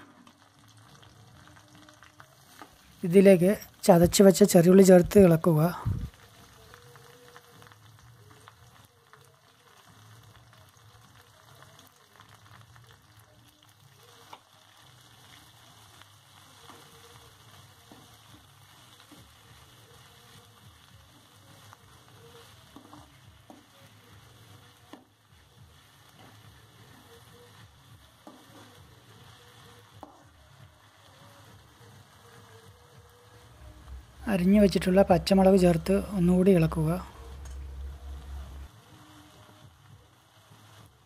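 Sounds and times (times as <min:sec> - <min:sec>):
onions sizzling in oil: 0:00.0 - 0:41.0.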